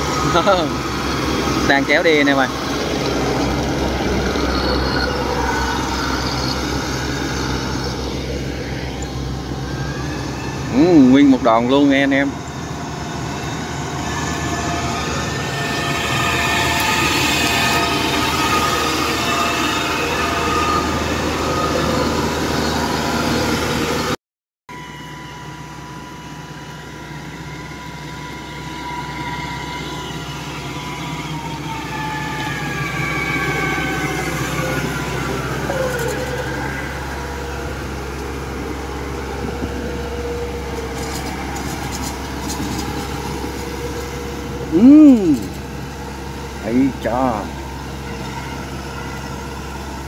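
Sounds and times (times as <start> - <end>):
combine harvester engine hum: 0.0 - 50.0.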